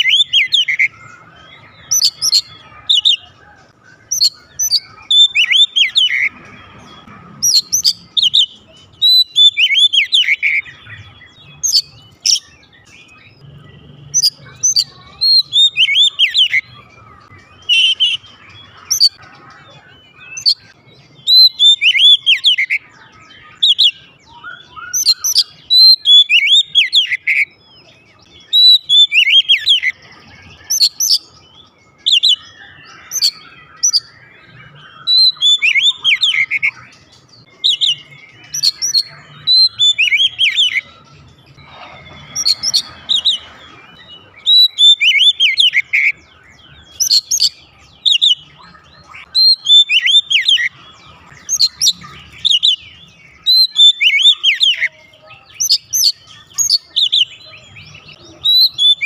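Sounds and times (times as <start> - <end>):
bird singing whistled notes: 0.0 - 59.0.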